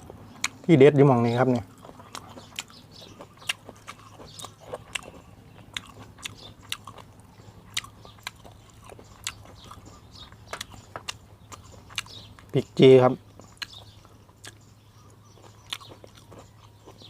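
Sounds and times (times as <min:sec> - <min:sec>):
person chewing crunchy food: 0:00.0 - 0:00.8, 0:01.4 - 0:17.0.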